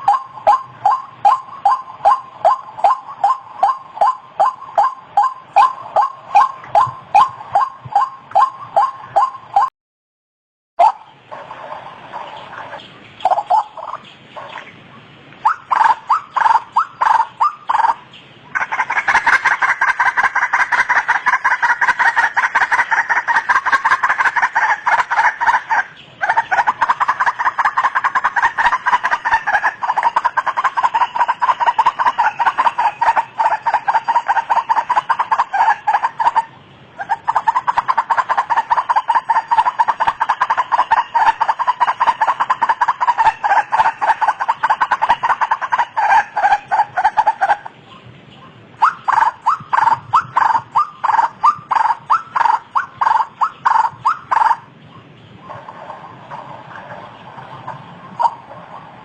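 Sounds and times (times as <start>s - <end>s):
waterhen calling: 0.0s - 9.7s, 10.8s - 59.0s.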